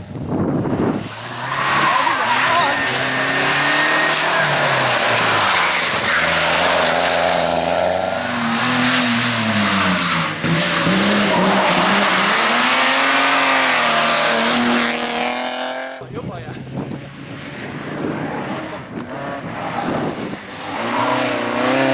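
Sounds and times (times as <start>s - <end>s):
race car engine revving: 0.6s - 16.0s, 16.9s - 21.9s.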